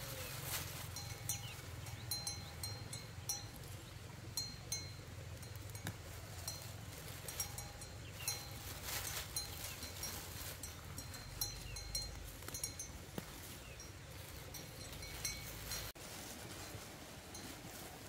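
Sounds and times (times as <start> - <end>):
rustling of leaves and grass: 0.0 - 18.0.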